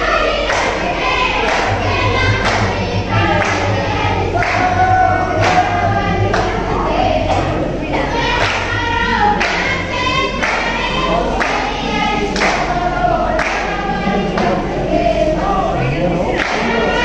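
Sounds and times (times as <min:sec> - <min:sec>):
group singing folk song: 0:00.0 - 0:17.0
steady beat: 0:00.0 - 0:17.0.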